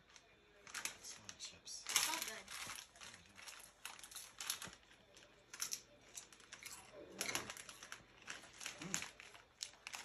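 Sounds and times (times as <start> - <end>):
foil chip bag crinkling: 0.0 - 10.0
chips crunching: 0.7 - 10.0.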